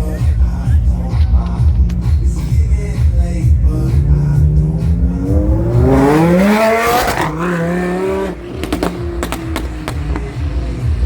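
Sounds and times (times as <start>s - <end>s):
background music with steady beat: 0.0s - 11.0s
car engine revving: 0.1s - 11.0s
sharp exhaust cracks: 1.1s - 10.5s.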